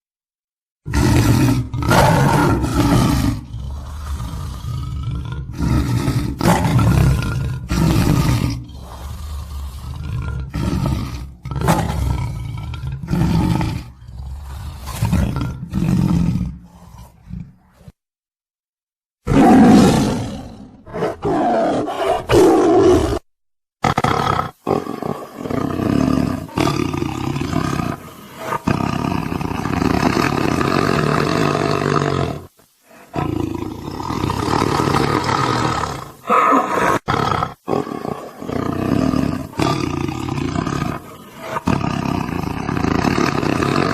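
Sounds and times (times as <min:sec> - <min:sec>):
tiger roaring and growling: 0:00.8 - 0:18.0, 0:19.2 - 0:43.9.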